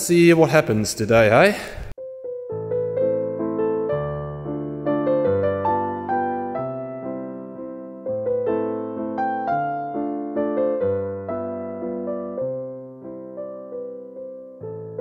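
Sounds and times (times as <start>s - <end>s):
piano music: 2.0s - 15.0s.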